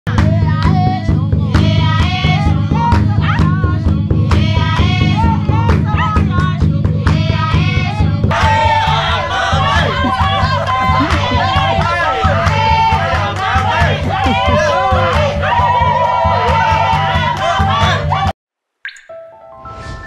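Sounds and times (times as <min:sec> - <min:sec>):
steady drum beat: 0:00.1 - 0:18.3
voices singing: 0:00.2 - 0:18.4.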